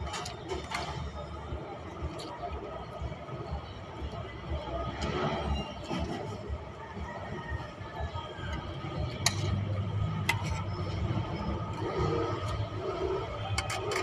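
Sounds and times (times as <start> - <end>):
street background rumble: 0.0 - 14.0.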